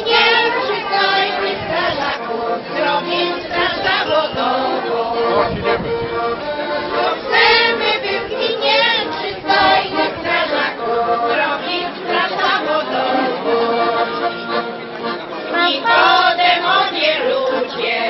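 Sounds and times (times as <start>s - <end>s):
women singing together: 0.0s - 14.2s, 15.5s - 18.0s.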